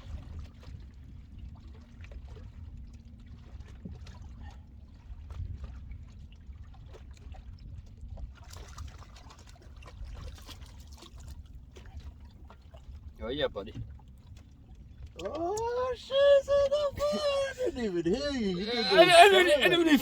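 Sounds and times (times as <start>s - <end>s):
boat low rumble: 0.0s - 20.0s.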